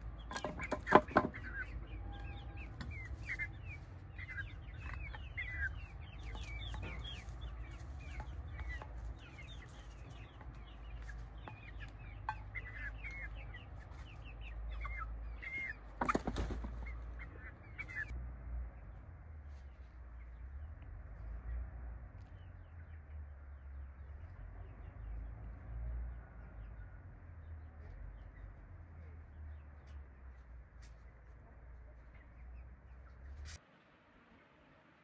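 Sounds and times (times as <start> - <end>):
small birds chirping: 0.0 - 34.4.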